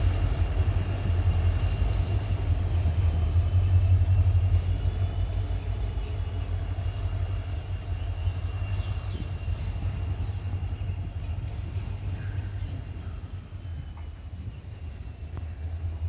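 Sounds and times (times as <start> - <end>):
diesel locomotive engine rumble: 0.0 - 16.0
faint high whine: 0.0 - 16.0.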